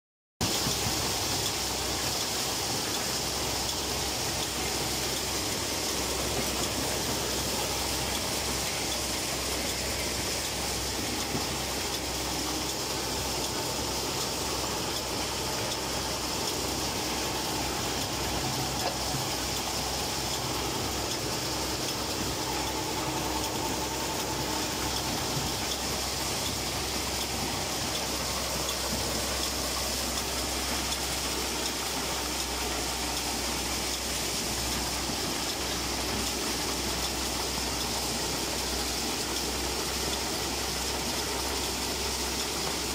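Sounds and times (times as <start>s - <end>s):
harvester working through plants: 0.4s - 42.9s
tractor engine running: 0.4s - 42.9s.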